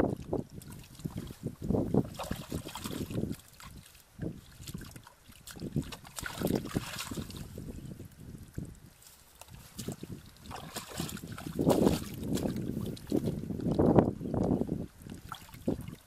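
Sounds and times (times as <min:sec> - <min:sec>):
wind buffeting microphone: 0:00.0 - 0:16.0
hands scraping in dry mud: 0:00.6 - 0:08.0, 0:08.9 - 0:14.6.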